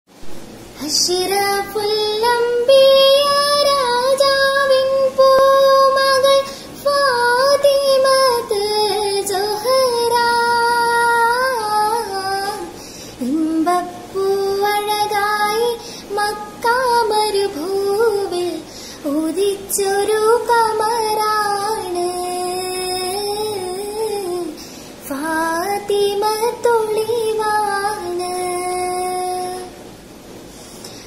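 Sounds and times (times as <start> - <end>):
girl singing unaccompanied: 0.6 - 30.0.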